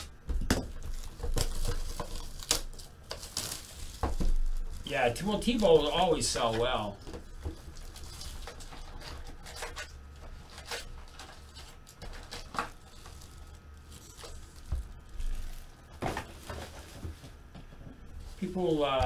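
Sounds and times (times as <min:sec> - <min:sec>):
foil packs rustling and crinkling: 0:00.0 - 0:19.0.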